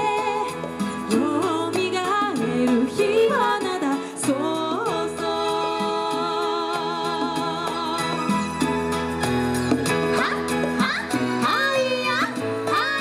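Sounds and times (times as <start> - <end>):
women singing: 0.0 - 8.4, 10.8 - 13.0
musical accompaniment: 0.0 - 13.0.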